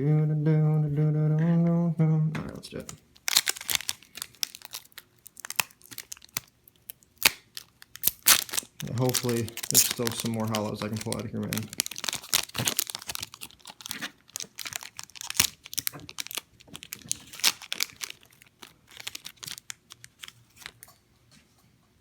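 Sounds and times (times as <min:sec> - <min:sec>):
foil wrapper crinkling and tearing: 0:02.8 - 0:20.9.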